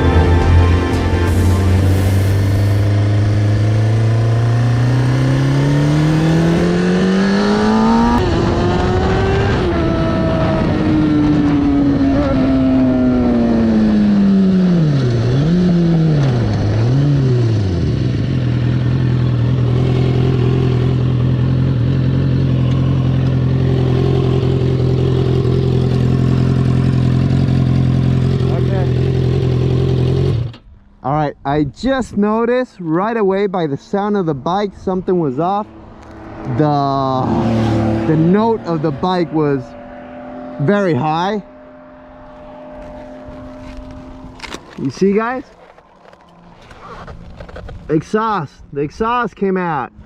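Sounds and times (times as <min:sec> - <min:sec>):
motorcycle engine revving and idling: 0:01.4 - 0:30.8, 0:35.7 - 0:47.9.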